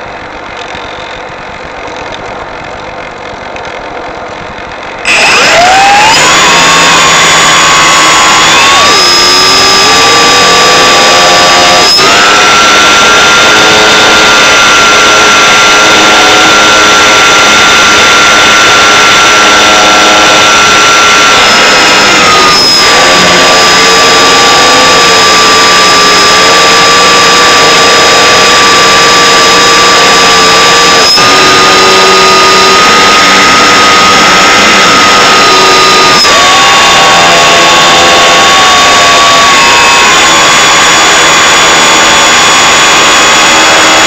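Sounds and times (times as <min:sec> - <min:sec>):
electric motor and propeller whine: 0:00.0 - 0:44.0.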